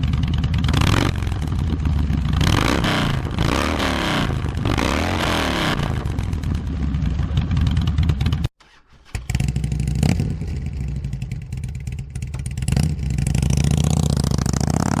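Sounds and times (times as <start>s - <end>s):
motorcycle engine running and revving: 0.0s - 8.5s, 9.3s - 15.0s.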